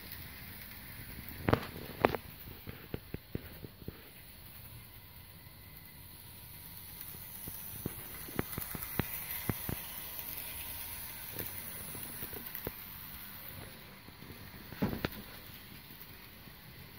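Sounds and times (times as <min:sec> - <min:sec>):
toy train running on track: 0:00.0 - 0:16.9.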